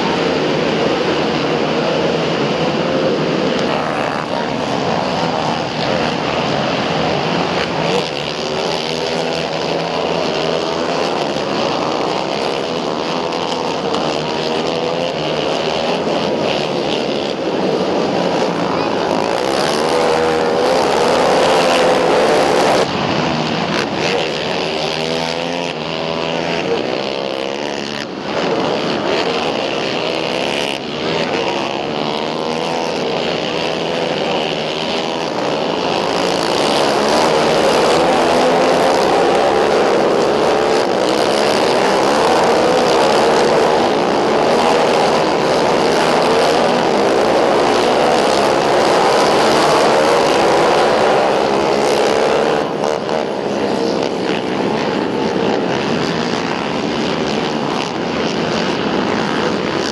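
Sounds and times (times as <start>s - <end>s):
quad engines at high revs: 0.0s - 59.9s.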